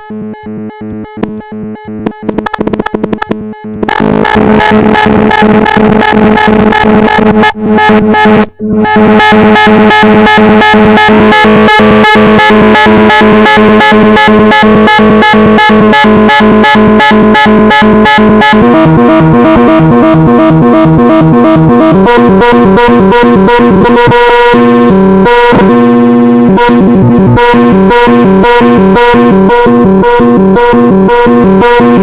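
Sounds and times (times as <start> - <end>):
synthesizer fast arpeggio: 0.0 - 32.0.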